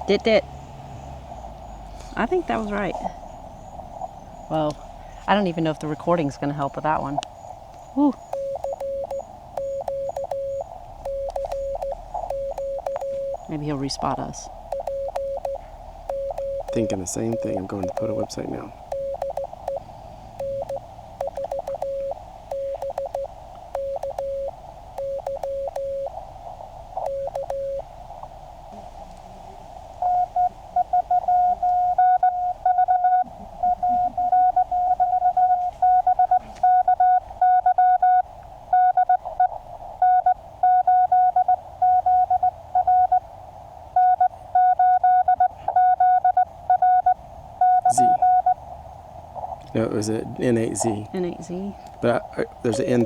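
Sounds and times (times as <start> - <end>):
receiver hiss: 1.2 - 45.6, 46.2 - 53.0
morse code tones: 1.7 - 7.2, 8.0 - 26.2, 27.0 - 27.9, 30.0 - 43.2, 44.0 - 48.6, 52.1 - 53.0.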